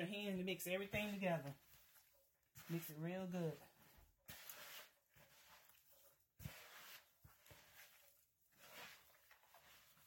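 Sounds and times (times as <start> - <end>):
gloved hands kneading mixture: 0.0 - 10.0.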